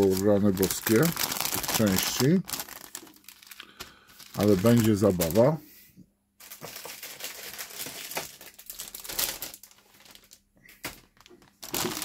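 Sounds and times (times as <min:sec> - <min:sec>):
plastic bags crinkling: 0:00.0 - 0:05.6, 0:06.4 - 0:12.0.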